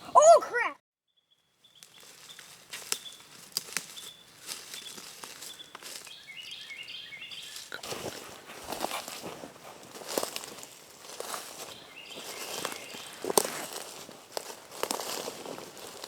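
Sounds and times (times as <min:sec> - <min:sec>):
footsteps in dry leaves: 0:01.6 - 0:16.0.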